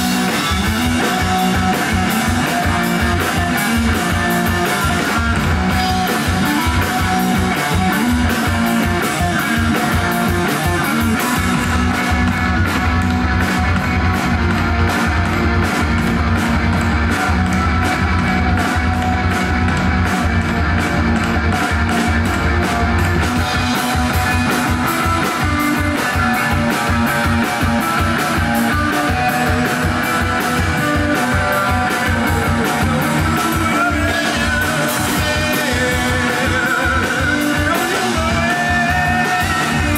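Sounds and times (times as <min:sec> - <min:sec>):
drum kit playing: 0:00.0 - 0:39.9
electric guitar: 0:00.0 - 0:39.9.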